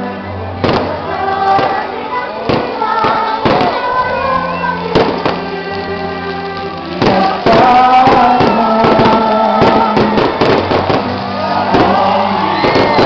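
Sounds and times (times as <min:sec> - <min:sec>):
song with singing: 0:00.0 - 0:13.0
fireworks popping and crackling: 0:00.5 - 0:13.0.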